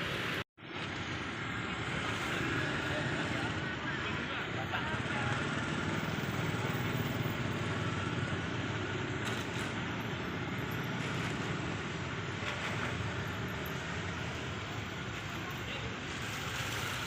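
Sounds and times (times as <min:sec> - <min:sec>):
rumble of vehicles running: 0:00.0 - 0:17.0.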